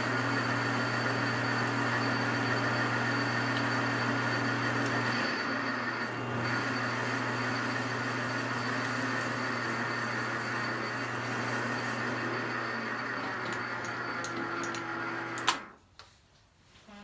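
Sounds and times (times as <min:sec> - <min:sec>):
metal lathe running: 0:00.0 - 0:15.7.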